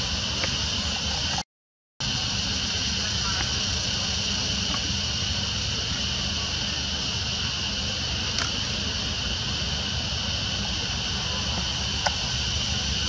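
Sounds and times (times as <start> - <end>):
constant high hiss: 0.0 - 1.4, 2.0 - 13.0.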